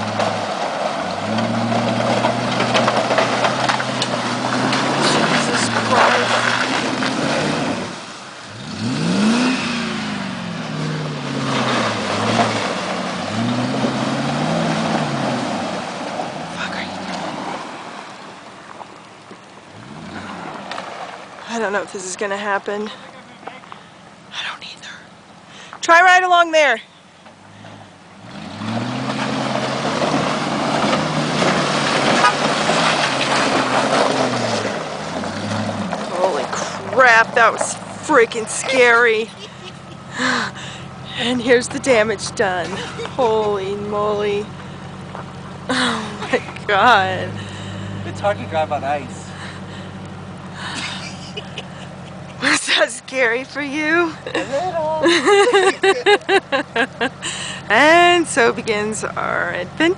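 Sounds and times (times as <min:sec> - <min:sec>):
car engine revving hard: 0:00.0 - 0:17.9, 0:27.4 - 0:59.9
water splashing and churning: 0:00.0 - 0:21.7, 0:27.4 - 0:53.8.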